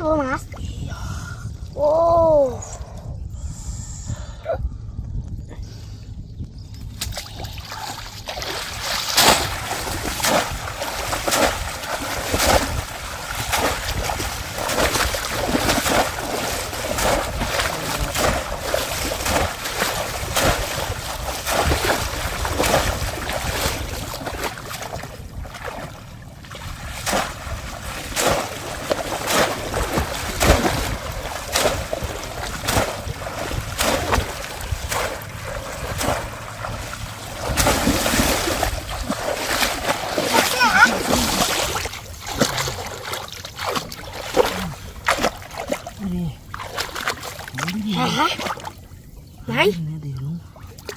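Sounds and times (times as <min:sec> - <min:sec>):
steady low rumble: 0:00.0 - 0:50.9
shallow water splashing: 0:07.0 - 0:50.9.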